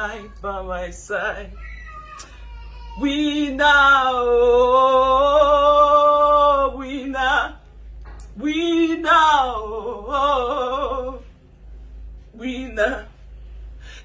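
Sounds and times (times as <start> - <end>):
woman singing gospel: 0.0 - 1.6, 3.0 - 11.3, 12.3 - 14.0.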